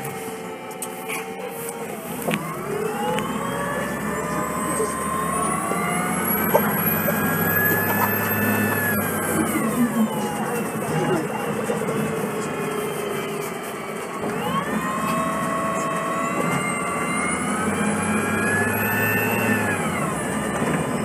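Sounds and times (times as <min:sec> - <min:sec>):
bus accelerating with rising whine: 0:00.0 - 0:21.0.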